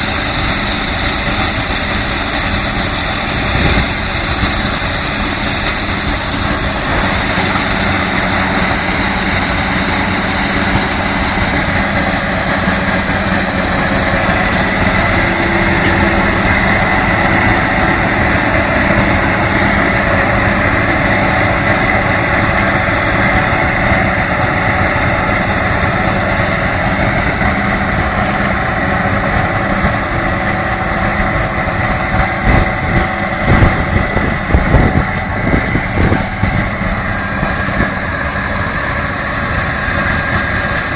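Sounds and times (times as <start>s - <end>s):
harvest machinery engine whining: 0.0s - 40.9s.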